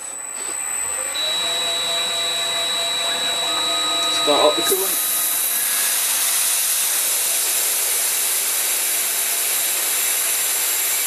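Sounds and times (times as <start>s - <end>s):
lathe turning: 0.0s - 11.0s.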